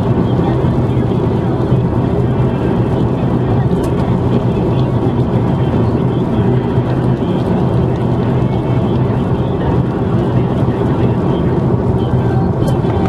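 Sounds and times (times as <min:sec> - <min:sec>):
car engine and tyre road noise: 0:00.0 - 0:13.0.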